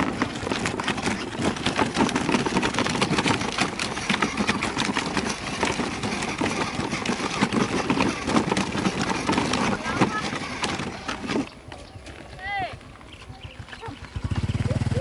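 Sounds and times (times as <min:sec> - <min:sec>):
plastic wheels rattling and crunching: 0:00.0 - 0:15.0
toy motorcycle running: 0:00.0 - 0:15.0.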